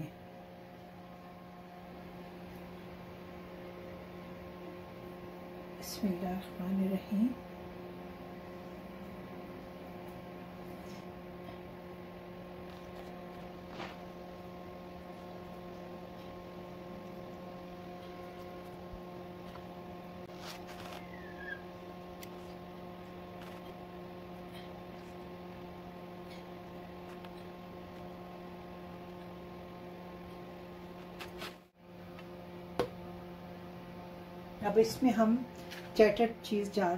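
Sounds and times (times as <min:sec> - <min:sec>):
electrical hum with tones: 0:00.0 - 0:36.9.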